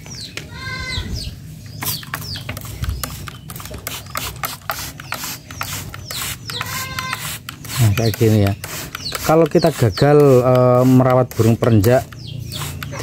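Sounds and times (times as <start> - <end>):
spray bottle hissing: 1.8 - 13.0.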